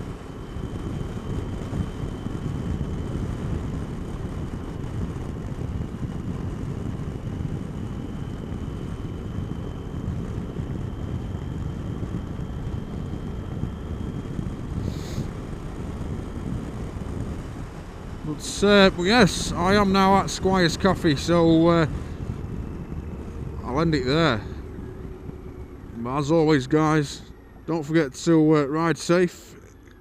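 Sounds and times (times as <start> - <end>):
faint steady whine: 0.0 - 30.0
motorcycle engine road and wind rumble: 0.0 - 30.0.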